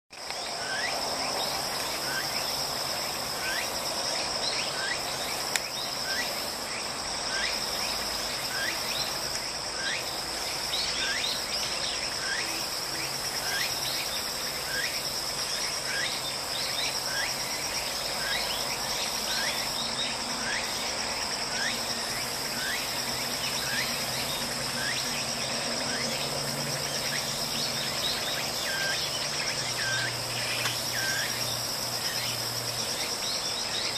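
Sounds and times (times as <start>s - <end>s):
insect drone: 0.1s - 33.9s.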